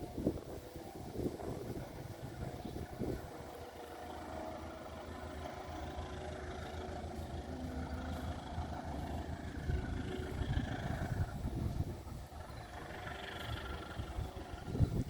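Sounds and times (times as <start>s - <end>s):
faint steady tones: 0.0s - 15.0s
heavy engine rumbling: 0.0s - 15.0s.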